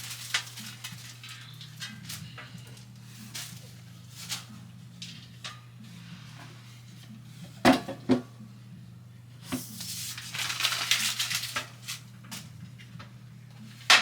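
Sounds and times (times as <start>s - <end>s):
rustling and crinkling: 0.0s - 7.6s, 9.5s - 14.0s
steady low hum: 0.0s - 13.9s.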